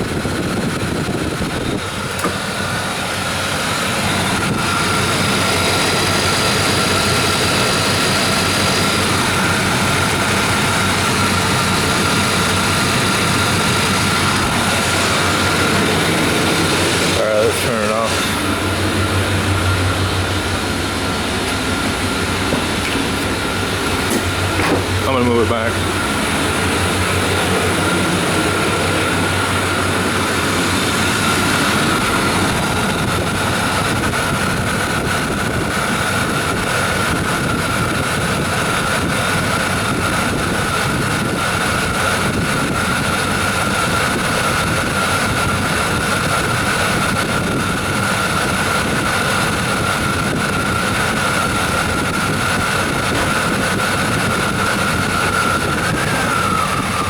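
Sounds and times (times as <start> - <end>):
high engine whine: 0.0 - 57.0
truck engine running: 0.0 - 57.0.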